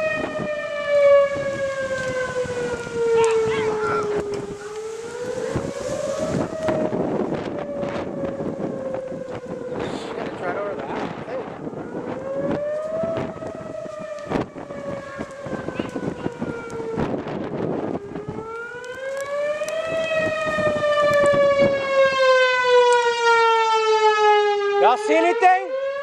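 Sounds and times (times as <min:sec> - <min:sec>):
wind buffeting microphone: 0:00.0 - 0:24.8
warning siren wailing: 0:00.0 - 0:26.0.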